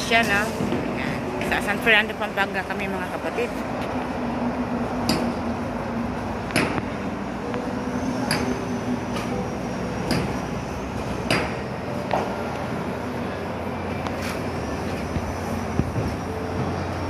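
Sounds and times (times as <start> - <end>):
expressway traffic noise: 0.0 - 17.0.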